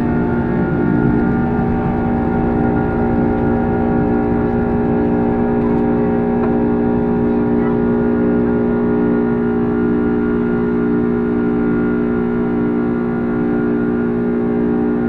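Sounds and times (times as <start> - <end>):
jet engine cabin hum: 0.0 - 15.0.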